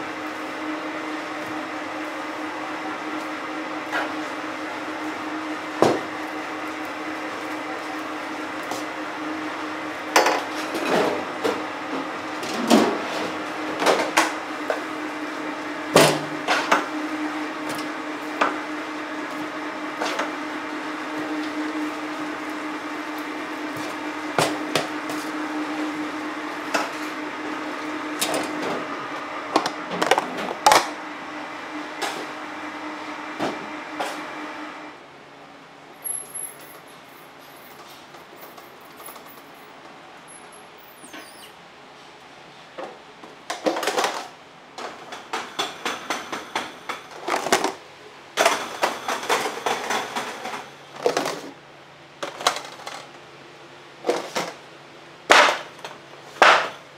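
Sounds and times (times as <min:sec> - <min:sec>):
factory machinery humming: 0:00.0 - 0:42.9, 0:43.9 - 0:54.1.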